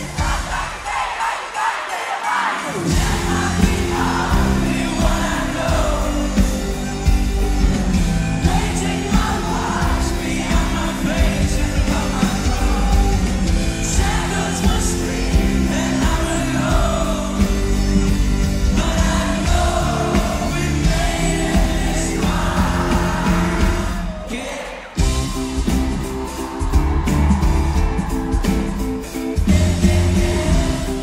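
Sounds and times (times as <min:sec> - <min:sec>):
drums: 0:00.0 - 0:31.0
live pop-rock band: 0:00.0 - 0:31.0
person singing: 0:01.9 - 0:31.0.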